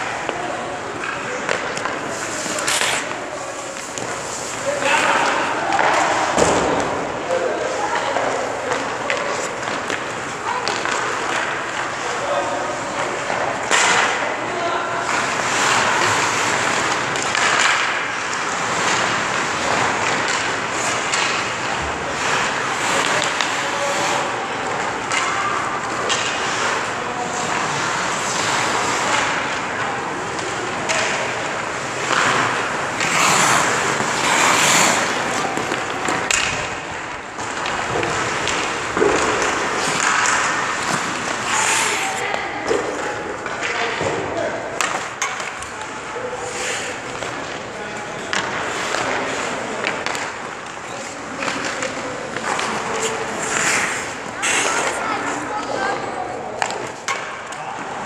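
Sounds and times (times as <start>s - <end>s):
skate blades scraping ice: 0.0s - 14.2s, 15.0s - 44.0s, 44.8s - 57.4s
pucks knocking off pads: 0.0s - 14.4s, 15.0s - 58.0s
hockey sticks hitting pucks: 0.0s - 58.0s.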